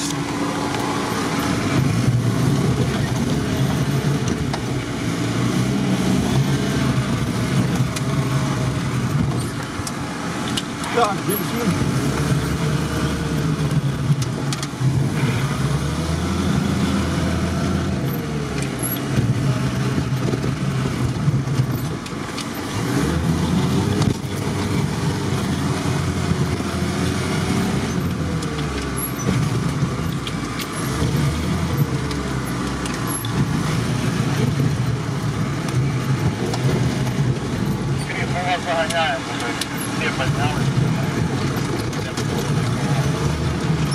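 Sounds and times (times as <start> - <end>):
vehicle engine revving: 0.0 - 43.9.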